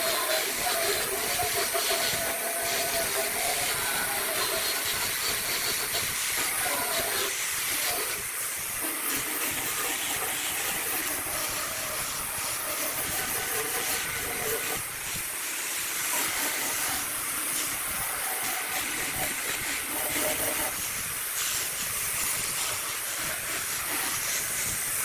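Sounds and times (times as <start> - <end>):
wood lathe hissing on wood: 0.0 - 25.0.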